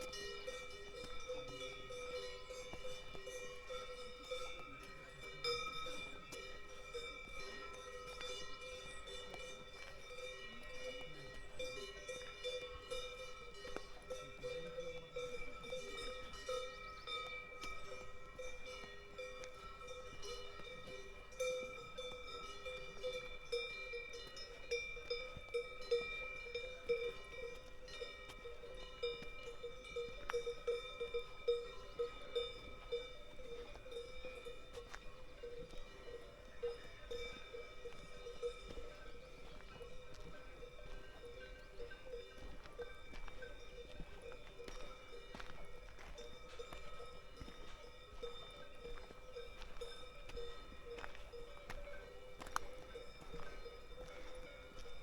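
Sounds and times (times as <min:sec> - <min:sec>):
cowbells ringing: 0:00.0 - 0:55.0.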